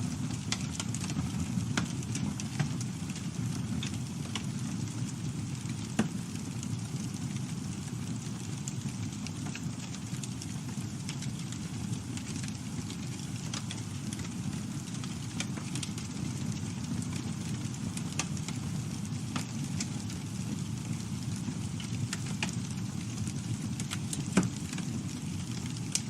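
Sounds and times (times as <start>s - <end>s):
campfire rumbling: 0.0s - 26.0s
wood crackling and popping: 0.0s - 26.0s.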